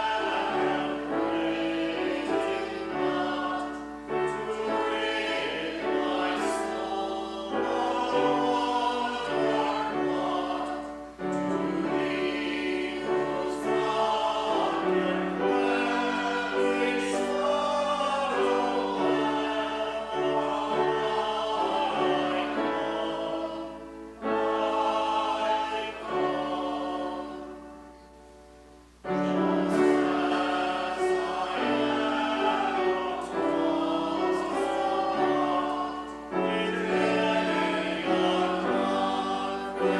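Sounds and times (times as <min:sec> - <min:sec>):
congregation singing a hymn: 0:00.0 - 0:39.9
organ accompaniment: 0:00.0 - 0:39.9.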